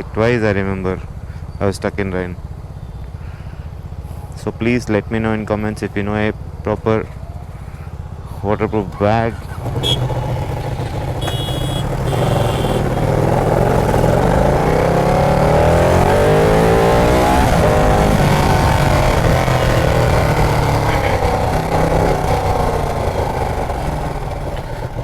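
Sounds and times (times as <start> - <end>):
motorcycle engine accelerating: 2.4 - 25.0.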